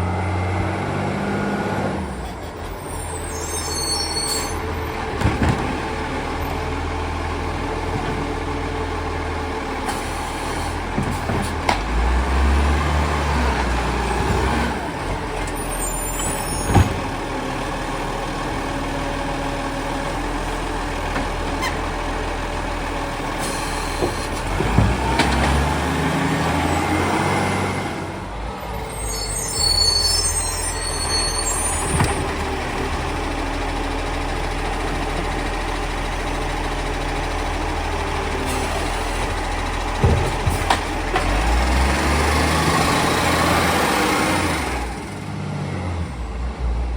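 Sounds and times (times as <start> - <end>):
garbage truck engine running: 0.0 - 46.9.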